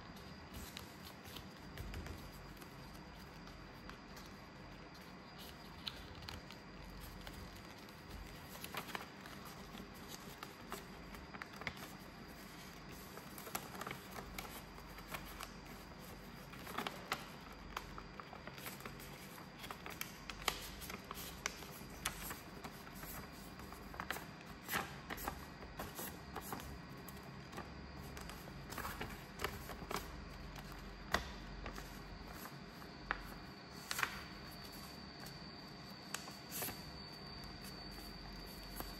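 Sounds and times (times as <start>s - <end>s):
paper rustling and crackling: 0.2s - 35.4s, 36.0s - 36.9s.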